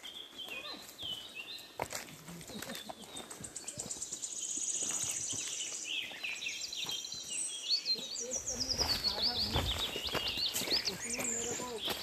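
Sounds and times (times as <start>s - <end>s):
birds trilling and chirping: 0.0s - 12.0s.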